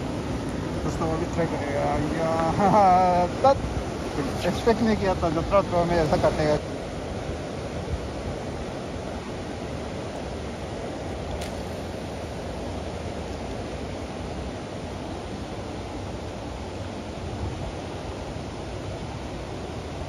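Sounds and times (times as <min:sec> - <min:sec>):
river rushing over boulders: 0:00.0 - 0:20.0.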